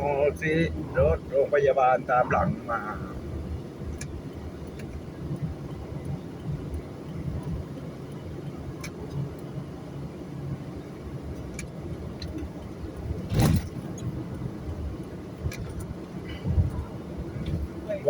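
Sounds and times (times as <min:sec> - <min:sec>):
vehicle road rumble: 0:00.0 - 0:18.0.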